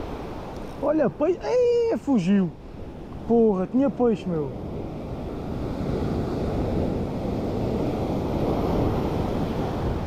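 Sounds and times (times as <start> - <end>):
sea surf breaking: 0.0 - 10.0
wind rumbling on microphone: 0.0 - 10.0.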